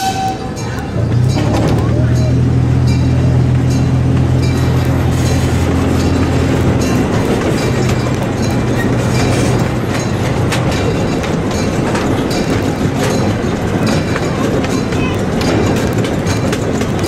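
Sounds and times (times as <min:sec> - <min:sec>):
train cars rattling: 0:00.0 - 0:17.0
wheels clicking on rails: 0:00.0 - 0:17.0.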